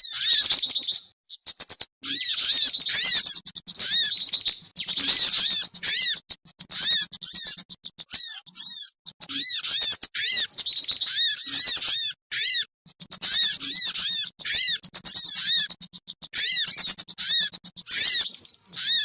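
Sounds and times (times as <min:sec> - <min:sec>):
songbirds chirping and trilling: 0:00.0 - 0:19.0
whistled bird notes: 0:00.0 - 0:19.0.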